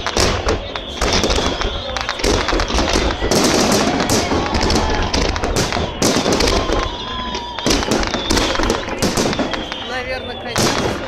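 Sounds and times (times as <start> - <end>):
crowd voices: 0.0 - 11.0
fireworks bursting and crackling: 0.0 - 11.0.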